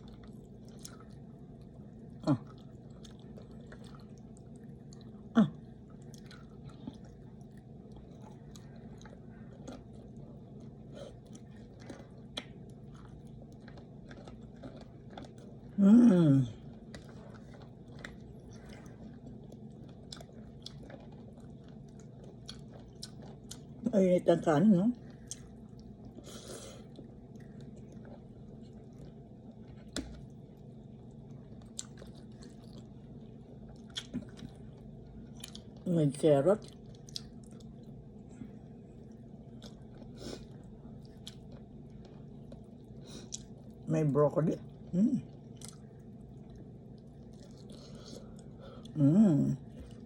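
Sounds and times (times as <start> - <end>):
person chewing food: 0.0 - 15.8, 16.4 - 23.9, 25.0 - 35.8, 36.6 - 43.9, 44.7 - 49.0, 49.6 - 50.0
faint low hum: 0.0 - 50.0.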